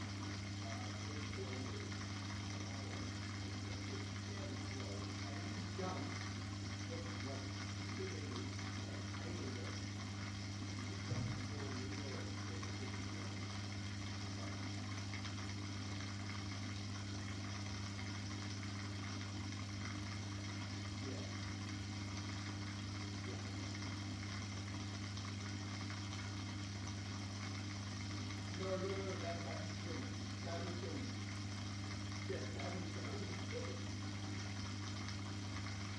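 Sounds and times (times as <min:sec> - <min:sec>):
aquarium pump humming: 0:00.0 - 0:35.9
water noise: 0:00.0 - 0:35.9.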